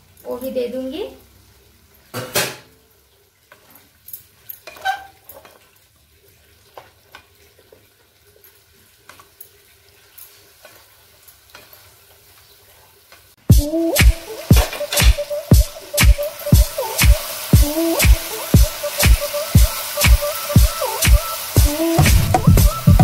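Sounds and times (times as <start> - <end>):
faint sizzle of frying: 0.0 - 23.0.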